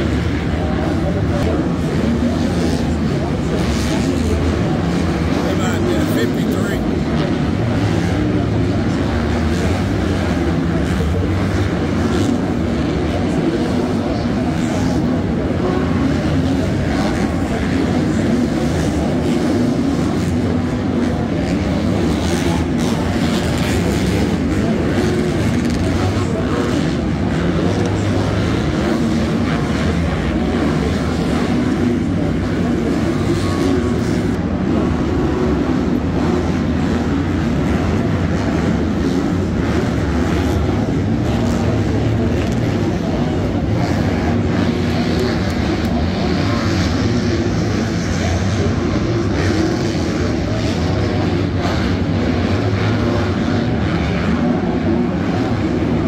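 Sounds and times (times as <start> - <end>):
motorcycle engines droning: 0.0 - 56.0.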